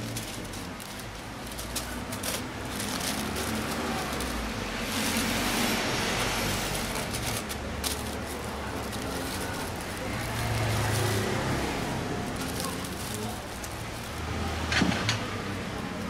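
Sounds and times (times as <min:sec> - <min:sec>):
street traffic noise: 0:00.0 - 0:16.0
vehicle passing close by: 0:00.0 - 0:16.0.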